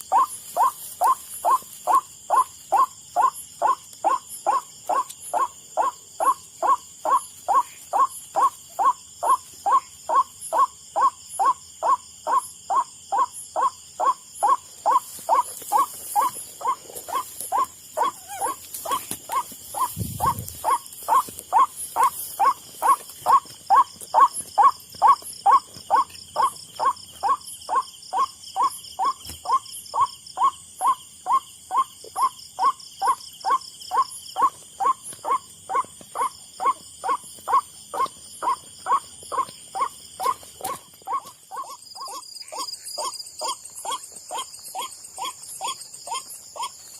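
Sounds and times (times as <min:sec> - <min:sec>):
insects whining and trilling: 0:00.0 - 0:46.9.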